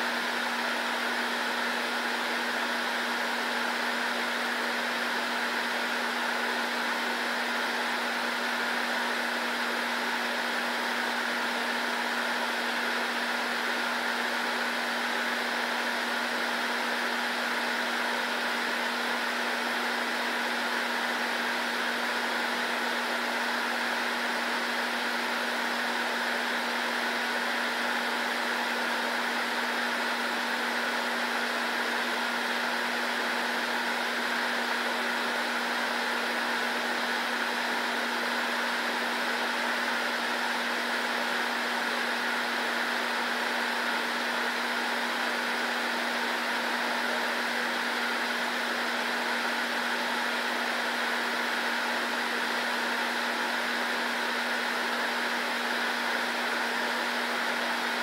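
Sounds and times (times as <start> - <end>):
fan-driven appliance whirring: 0.0 - 58.0.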